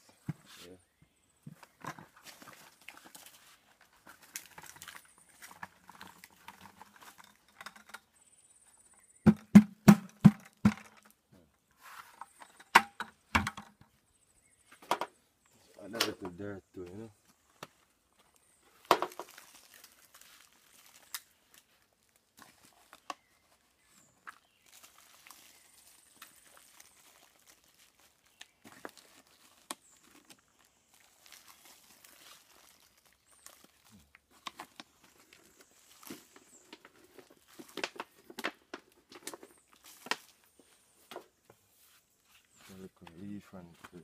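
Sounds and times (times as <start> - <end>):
rustling and scraping soil: 0.0 - 9.5, 10.1 - 44.0.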